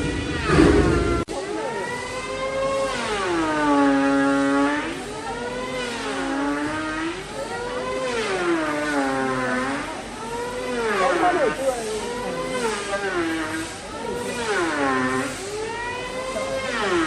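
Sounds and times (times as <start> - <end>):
power tool cutting wood: 0.0 - 17.0.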